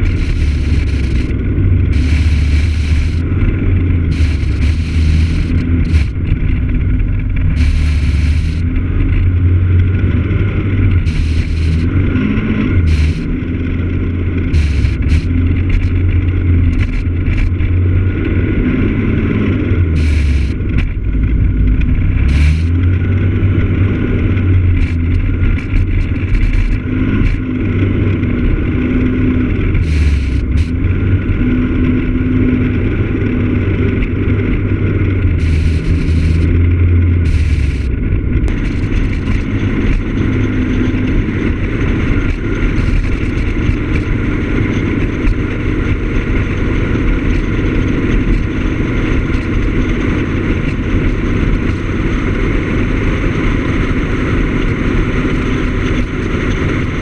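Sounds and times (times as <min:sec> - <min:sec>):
scooter engine drone: 0:00.0 - 0:57.0
wind and road rush: 0:00.0 - 0:57.0.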